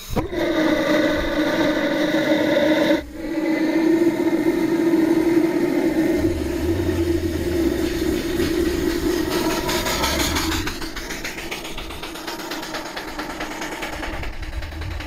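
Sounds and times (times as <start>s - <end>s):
steam motorcycle running: 0.0s - 15.0s
deep engine rumble: 2.7s - 15.0s.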